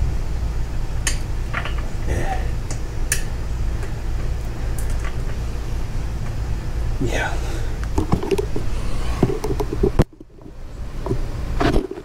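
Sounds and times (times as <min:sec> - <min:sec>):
low rumble: 0:00.0 - 0:11.6.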